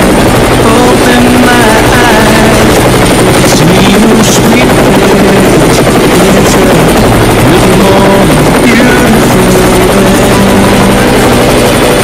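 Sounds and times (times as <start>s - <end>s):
helicopter running loudly: 0.0s - 12.0s.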